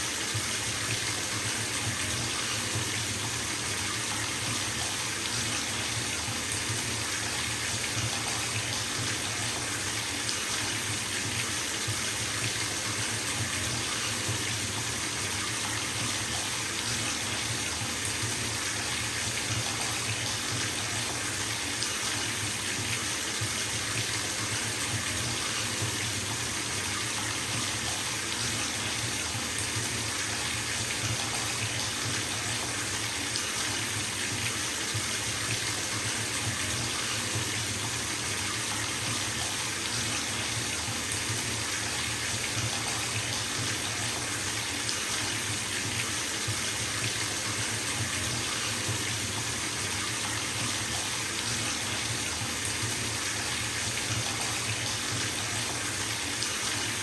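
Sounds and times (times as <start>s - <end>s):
tap water splashing into tub: 0.0s - 57.0s.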